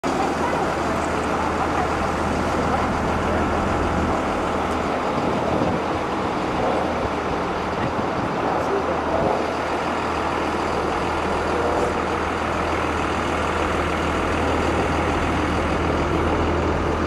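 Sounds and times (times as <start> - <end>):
broad rushing noise: 0.0 - 17.0
low hum: 0.0 - 17.0
motor engine running: 0.0 - 17.0.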